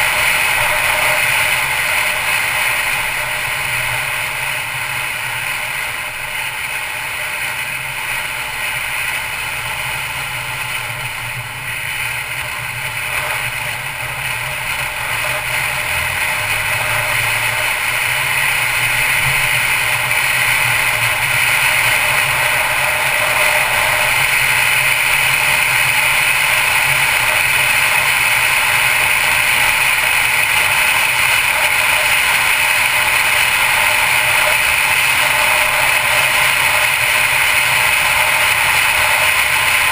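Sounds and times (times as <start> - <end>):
car engine hum: 0.0 - 39.9
road and wind noise: 0.0 - 39.9.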